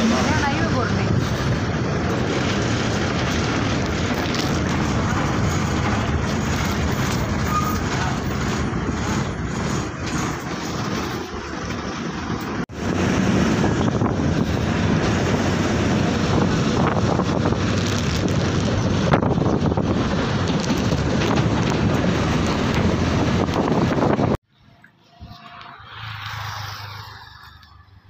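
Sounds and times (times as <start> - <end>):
wind through windows: 0.0 - 24.5
bus engine running: 0.0 - 28.0
road rumble: 0.0 - 28.0.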